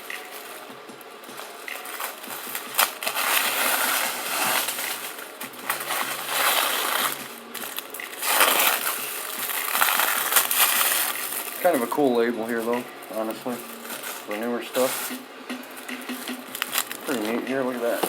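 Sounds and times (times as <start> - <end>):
paper wrapping tearing and crumpling: 0.0 - 18.0.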